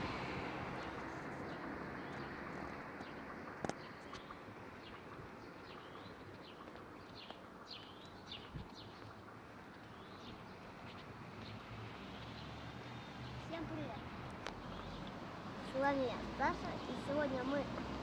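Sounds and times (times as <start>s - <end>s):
faint outdoor background noise: 0.0s - 18.0s
small birds chirping: 0.7s - 18.0s.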